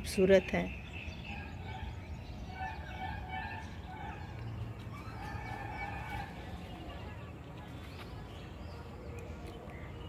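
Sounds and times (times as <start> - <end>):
birds calling and chirping: 0.0 - 10.0.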